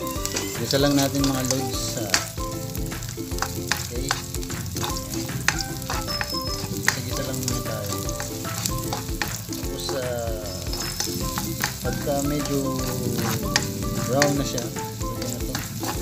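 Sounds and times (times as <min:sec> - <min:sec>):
garlic and onion sizzling in oil: 0:00.0 - 0:16.0
spatula scraping metal wok: 0:00.0 - 0:16.0.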